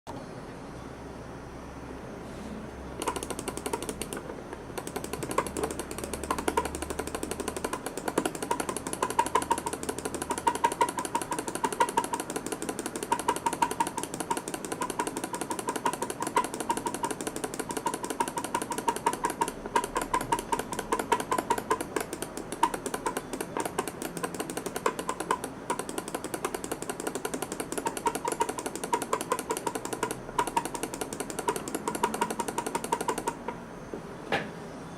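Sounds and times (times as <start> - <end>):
computer mouse clicking rapidly: 3.0 - 33.6.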